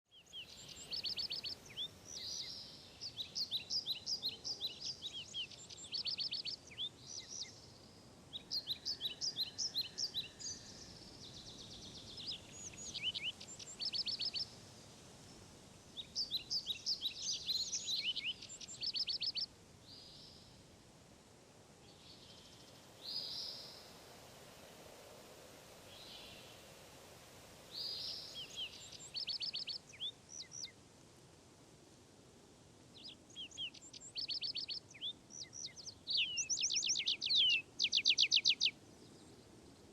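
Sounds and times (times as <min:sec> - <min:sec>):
songbird chirping and trilling: 0:00.1 - 0:14.6, 0:15.9 - 0:20.6, 0:21.8 - 0:30.8, 0:32.9 - 0:39.9.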